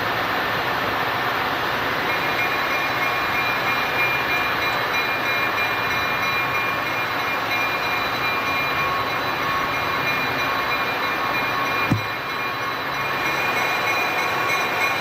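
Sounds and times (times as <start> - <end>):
train wheel and engine noise: 0.0 - 15.0
thin high whines: 1.9 - 15.0.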